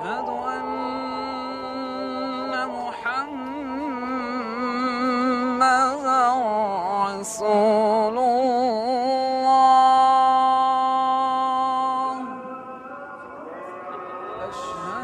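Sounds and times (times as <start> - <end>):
solo voice chanting: 0.0 - 15.0.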